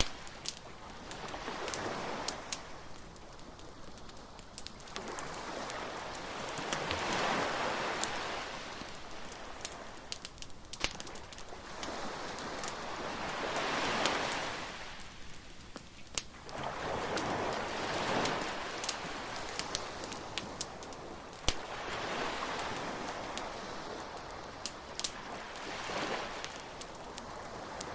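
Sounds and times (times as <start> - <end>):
bonfire crackling: 0.0 - 27.9
waves breaking on beach: 0.0 - 27.9.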